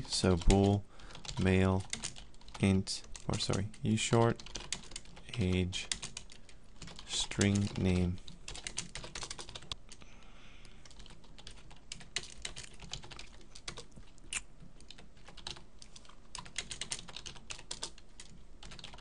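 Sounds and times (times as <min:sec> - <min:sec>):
keyboard typing: 0:00.3 - 0:10.0, 0:10.8 - 0:14.0, 0:14.8 - 0:19.0.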